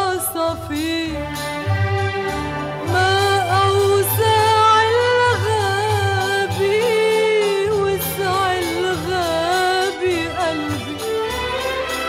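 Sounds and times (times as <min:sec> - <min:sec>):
woman singing wordless melody: 0:00.0 - 0:01.5, 0:02.9 - 0:11.2
orchestral accompaniment: 0:00.0 - 0:12.0.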